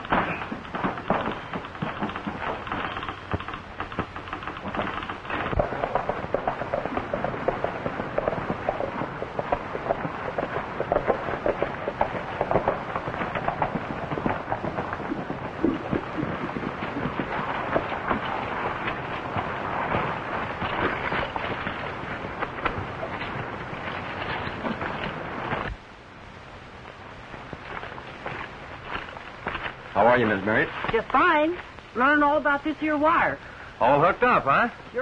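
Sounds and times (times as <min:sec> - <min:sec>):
horses galloping: 0:00.0 - 0:35.0.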